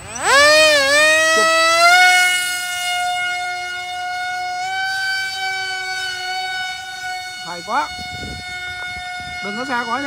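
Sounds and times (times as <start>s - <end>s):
model jet motor whining: 0.0s - 10.0s.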